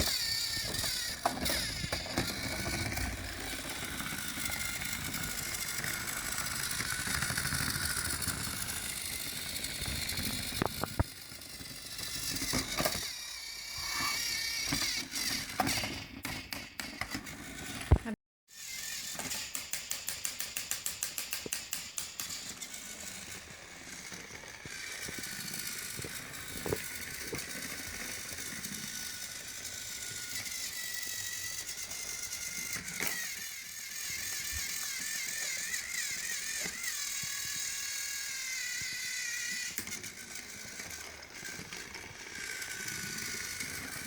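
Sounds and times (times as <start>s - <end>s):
toy train motor whine: 0.0s - 44.0s.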